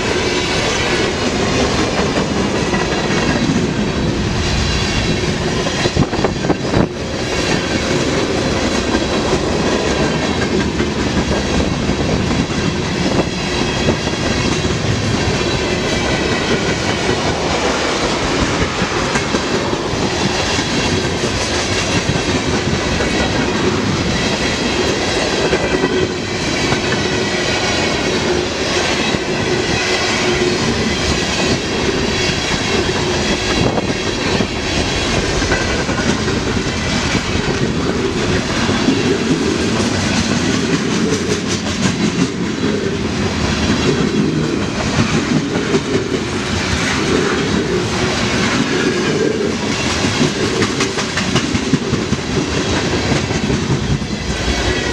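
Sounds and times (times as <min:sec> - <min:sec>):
freight train wheels clattering: 0:00.0 - 0:54.9.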